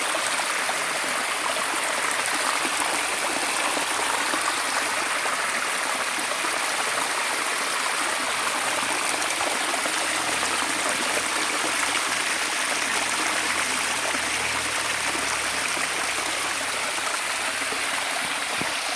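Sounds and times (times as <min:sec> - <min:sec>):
water rushing and splashing: 0:00.0 - 0:18.9.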